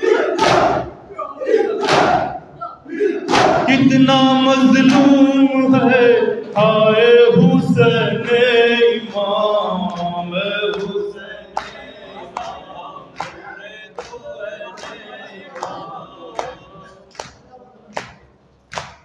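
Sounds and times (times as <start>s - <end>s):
men chanting a lament: 0.0s - 17.3s.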